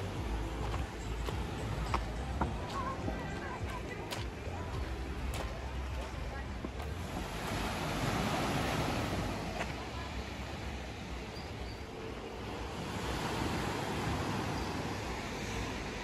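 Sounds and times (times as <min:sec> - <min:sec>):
sea surf washing ashore: 0:00.0 - 0:16.0.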